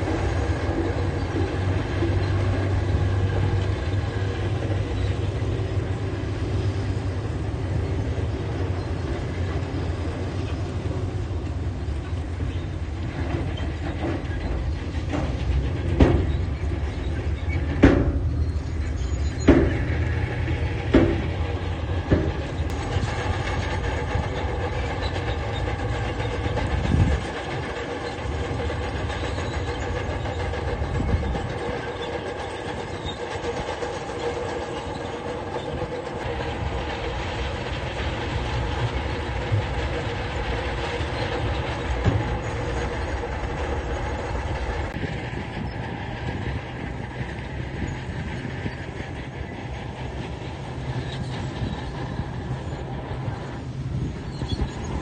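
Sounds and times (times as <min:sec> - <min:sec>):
bulldozer diesel engine running: 0:00.0 - 0:55.0
steel tracks clanking: 0:00.0 - 0:55.0.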